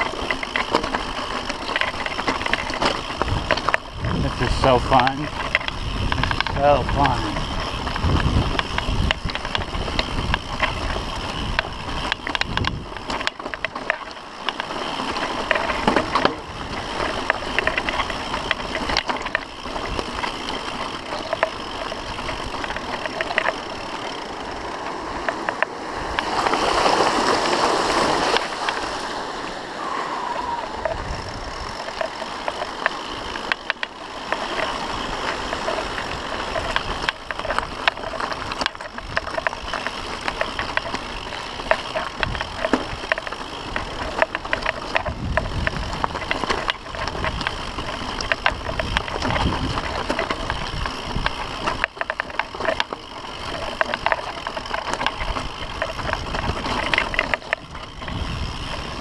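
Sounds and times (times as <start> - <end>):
bike rattling over stones: 0.0 - 59.0
mountain bike on rocky trail: 0.0 - 59.0.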